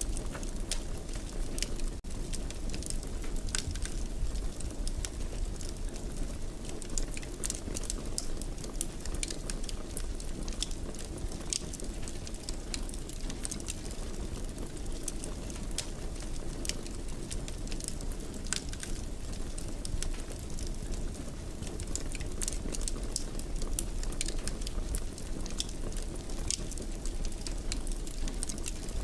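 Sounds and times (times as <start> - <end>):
low rumble of fire: 0.0 - 29.0
wood fire crackling and popping: 0.0 - 29.0.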